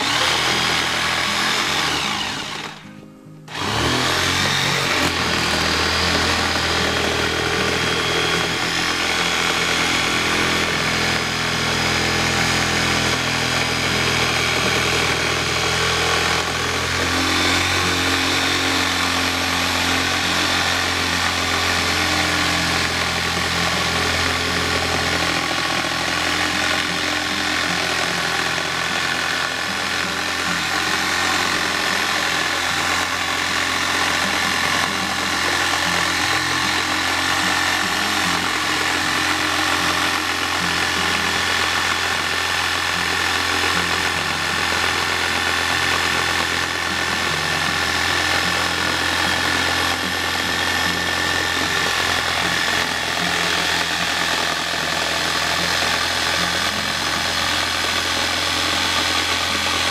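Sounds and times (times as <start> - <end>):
electric jigsaw sawing rubber: 0.0 - 59.9.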